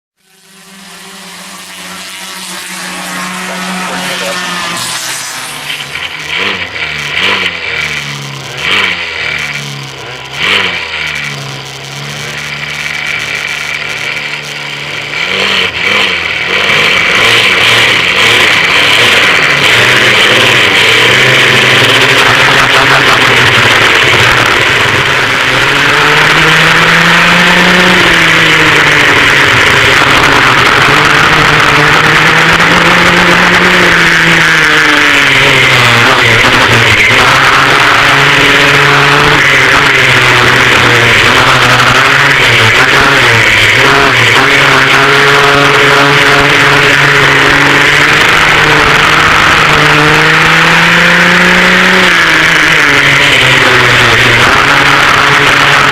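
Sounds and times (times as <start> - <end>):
racing kart engines revving: 0.2 - 55.9.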